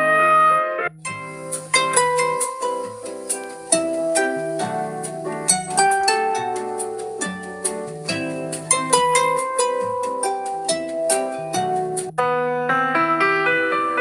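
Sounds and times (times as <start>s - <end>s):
ringtone melody of plucked notes: 0.8s - 14.0s.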